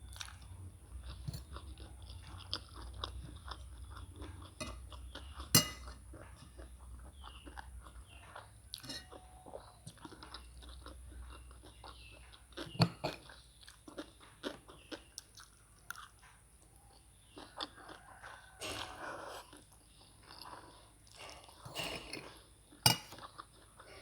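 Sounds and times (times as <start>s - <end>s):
chewing and crunching food: 0.0s - 24.0s.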